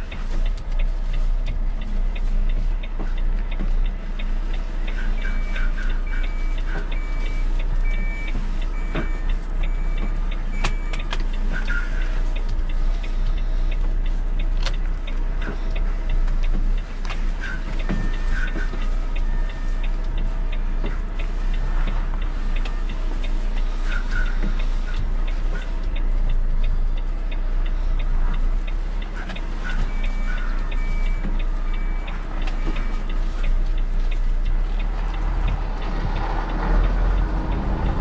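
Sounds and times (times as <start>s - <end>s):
diesel engine running: 0.0s - 38.0s
turn signal ticking: 0.0s - 38.0s.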